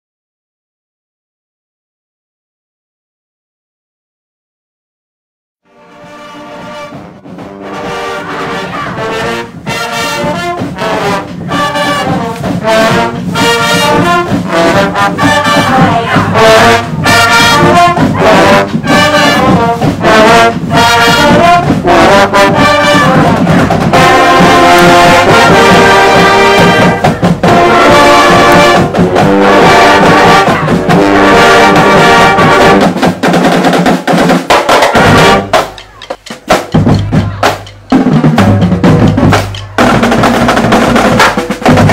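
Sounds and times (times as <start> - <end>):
marching band playing: 5.7 - 41.9.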